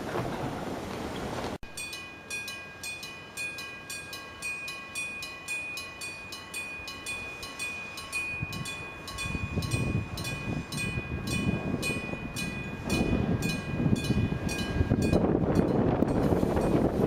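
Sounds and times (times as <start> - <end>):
low rumble of passing train: 0.0 - 17.0
level crossing bell ringing: 1.7 - 16.9.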